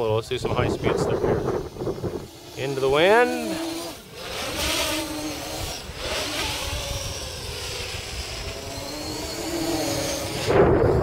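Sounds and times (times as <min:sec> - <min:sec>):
drone motors whining: 0:00.0 - 0:11.0
low wind rumble: 0:00.0 - 0:11.0.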